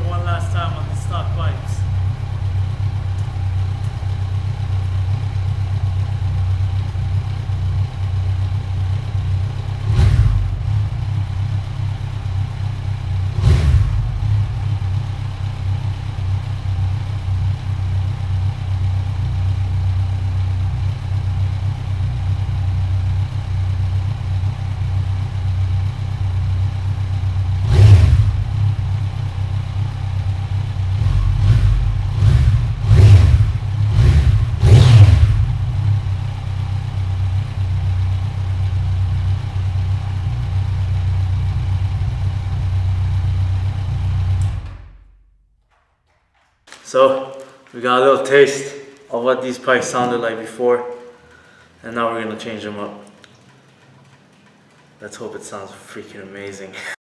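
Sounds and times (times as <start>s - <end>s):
motorcycle engine idling and revving: 0.0s - 45.8s, 51.3s - 56.9s.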